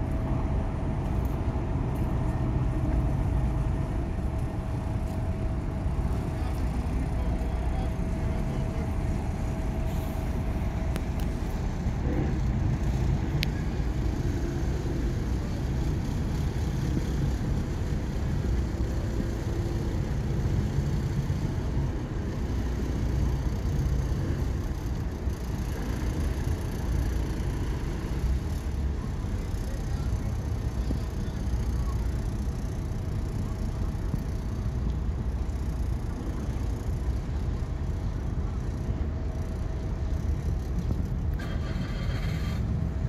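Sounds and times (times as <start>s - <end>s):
ship engines rumbling: 0.0s - 43.0s.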